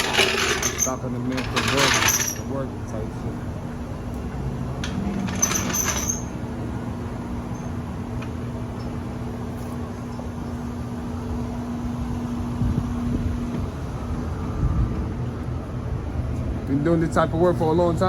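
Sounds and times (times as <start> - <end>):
machine hum: 0.0 - 16.2.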